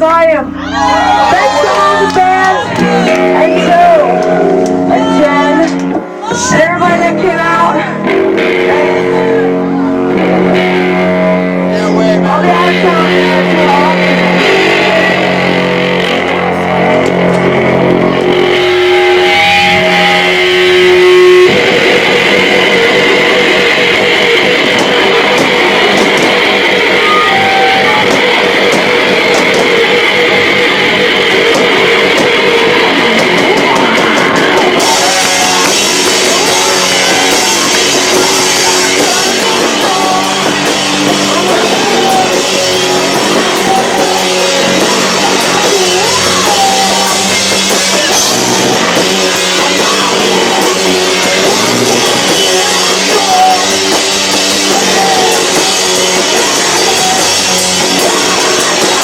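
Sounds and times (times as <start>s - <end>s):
electric guitar chords: 0.0s - 59.0s
live rock band playing: 0.0s - 59.0s.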